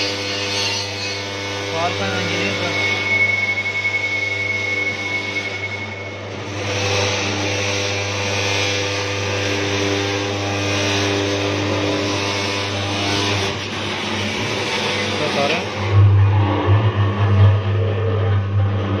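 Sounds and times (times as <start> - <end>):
electric mixer motor humming: 0.0 - 19.0
rushing whir: 0.0 - 19.0.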